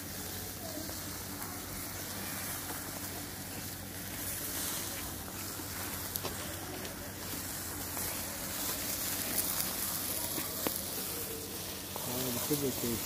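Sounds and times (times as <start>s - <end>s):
kebabs sizzling on grill: 0.0s - 13.0s
short crackle: 1.1s - 13.0s.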